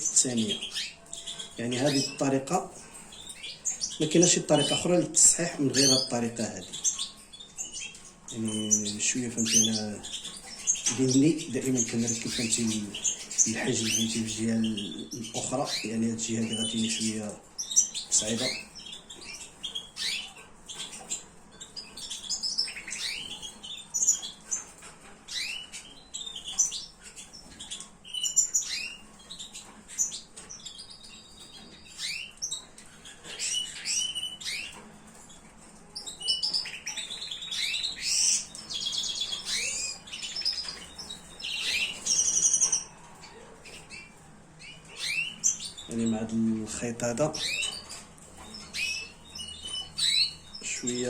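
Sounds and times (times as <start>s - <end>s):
finches chirping: 0.0s - 51.0s.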